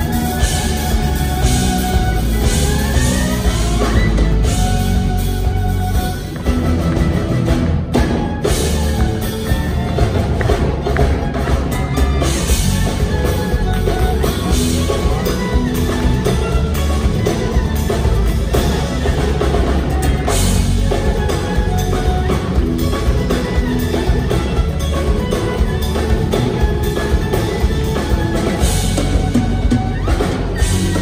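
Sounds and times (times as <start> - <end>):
drum kit beat: 0.0 - 31.0
violins: 0.0 - 31.0.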